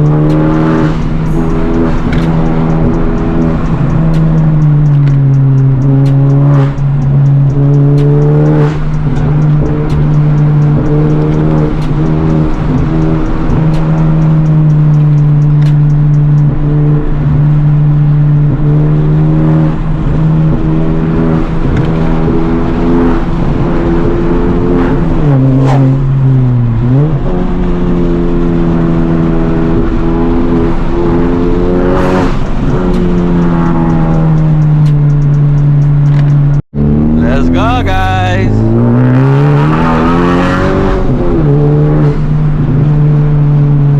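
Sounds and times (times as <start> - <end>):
car engine droning at cruise: 0.0 - 43.9.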